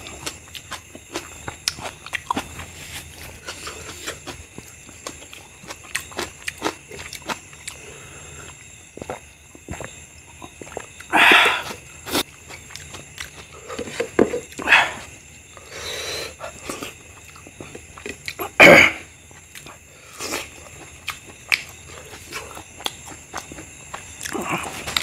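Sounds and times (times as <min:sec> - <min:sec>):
wet chewing and lip-smacking: 0:00.0 - 0:07.8, 0:08.4 - 0:14.6, 0:16.4 - 0:18.5, 0:19.2 - 0:25.0.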